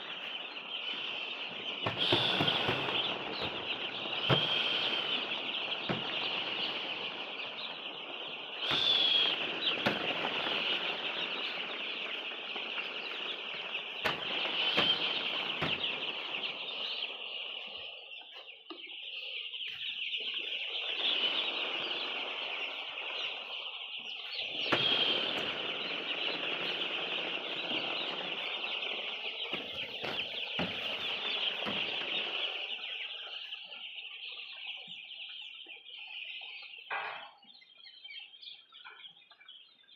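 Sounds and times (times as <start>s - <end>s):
chickens cheeping chorus: 0.0s - 39.9s.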